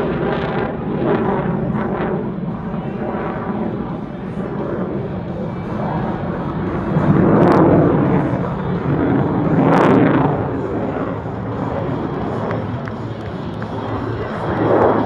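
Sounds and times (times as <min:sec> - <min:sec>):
jet fighter flying past: 0:00.0 - 0:15.0.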